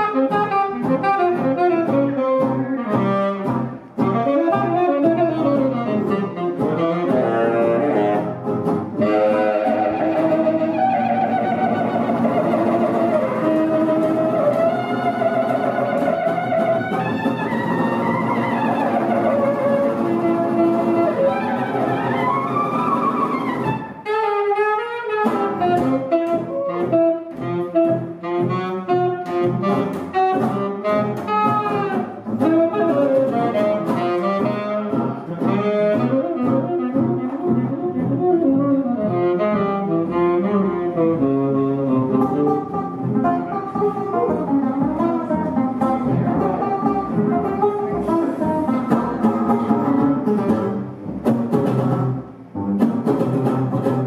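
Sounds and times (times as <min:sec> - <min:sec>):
plucked upright bass: 0:00.0 - 0:24.2, 0:25.2 - 0:54.0
saxophone melody: 0:00.0 - 0:51.3
acoustic guitar: 0:00.0 - 0:54.0.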